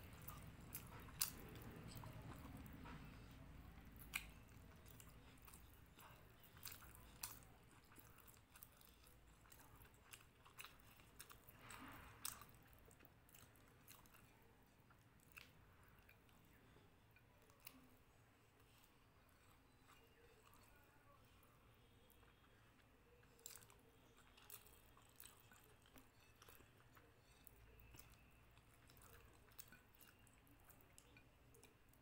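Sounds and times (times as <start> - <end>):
faint close-up chewing: 0.0 - 32.0.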